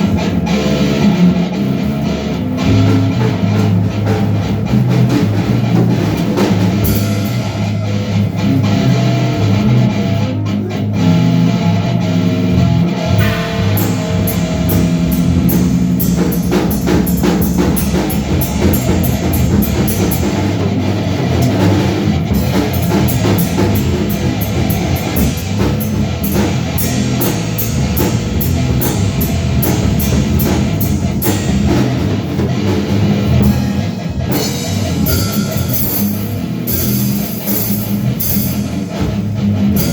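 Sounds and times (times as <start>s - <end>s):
steady drum beat: 0.0s - 10.2s, 12.4s - 39.9s
distorted electric guitar: 0.0s - 39.9s
rock music: 0.0s - 39.9s.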